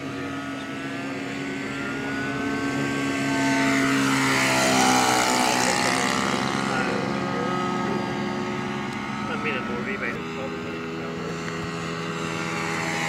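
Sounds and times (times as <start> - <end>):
model aircraft engine and propeller: 0.0 - 13.0.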